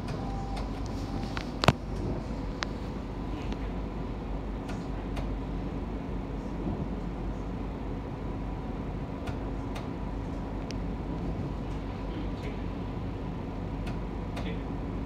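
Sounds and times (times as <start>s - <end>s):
tram running on rails: 0.0s - 15.0s.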